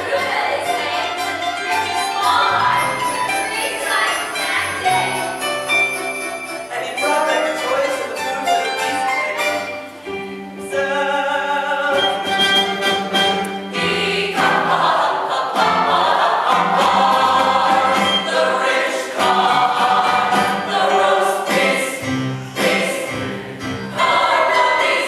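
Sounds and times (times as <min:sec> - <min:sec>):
voices singing: 0:00.0 - 0:09.9, 0:10.6 - 0:25.0
musical accompaniment: 0:00.0 - 0:25.0.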